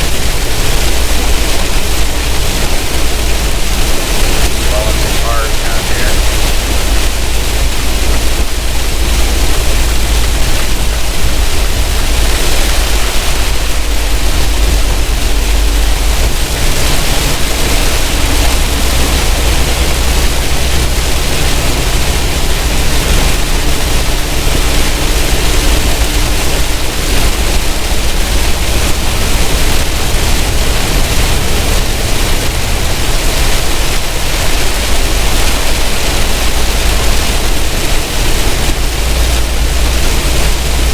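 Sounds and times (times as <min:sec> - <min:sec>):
road and wind hiss: 0:00.0 - 0:40.9
truck engine drone: 0:00.0 - 0:40.9.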